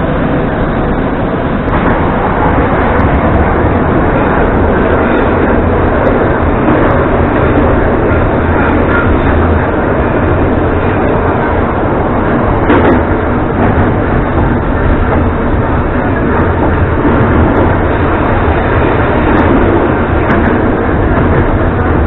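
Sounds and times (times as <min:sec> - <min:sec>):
train rumbling in tunnel: 0:00.0 - 0:22.0.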